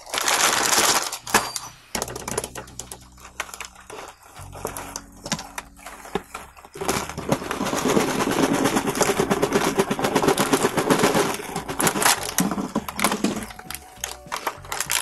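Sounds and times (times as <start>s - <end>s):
plastic toys clattering onto table: 0.1s - 15.0s.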